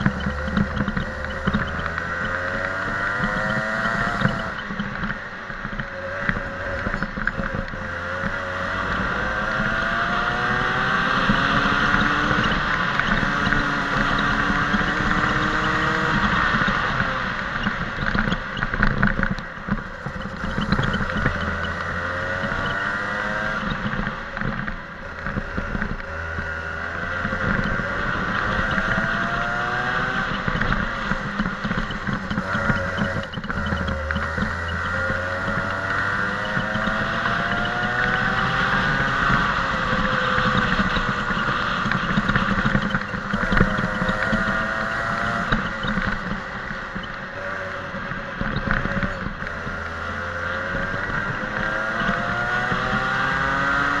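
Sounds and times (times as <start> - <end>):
go-kart engine: 0.0 - 54.0.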